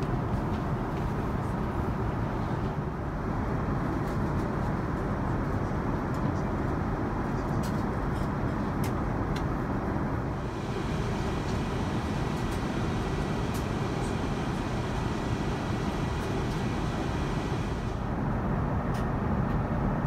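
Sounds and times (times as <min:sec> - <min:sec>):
airplane cabin noise: 0:00.0 - 0:20.0.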